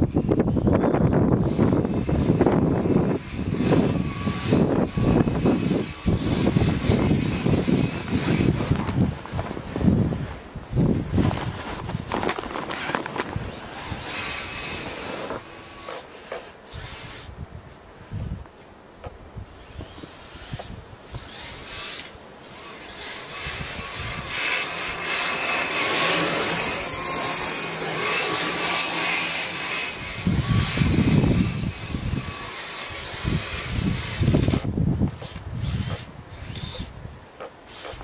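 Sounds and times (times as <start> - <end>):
electric motors whirring: 0.0 - 10.9, 12.7 - 17.4, 19.5 - 38.0
tracks rushing and rubbing: 0.0 - 17.3, 19.5 - 38.0.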